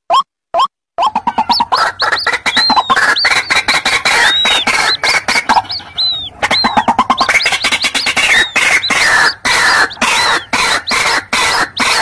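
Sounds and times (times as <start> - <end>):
chicks peeping: 1.0 - 12.0
waterhens calling harshly: 1.0 - 12.0.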